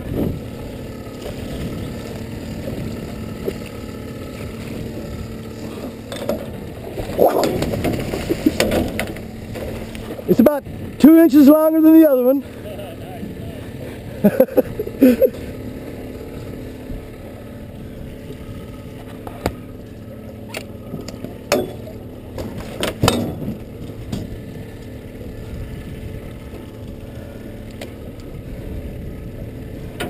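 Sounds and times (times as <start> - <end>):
steady low drone: 0.0 - 30.0.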